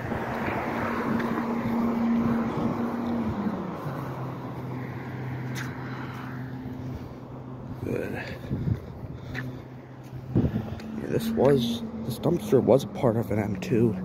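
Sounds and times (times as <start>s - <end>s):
truck diesel engine humming: 0.0s - 14.0s.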